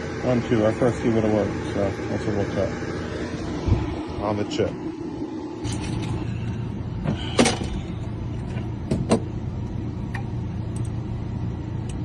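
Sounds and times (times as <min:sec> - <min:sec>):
idling vehicle engine hum: 0:00.0 - 0:12.0.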